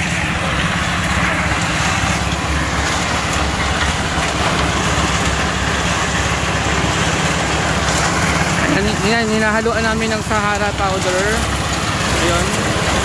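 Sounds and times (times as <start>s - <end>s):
concrete mixer engine humming: 0.0s - 13.0s
mixer drum churning cement: 0.0s - 13.0s.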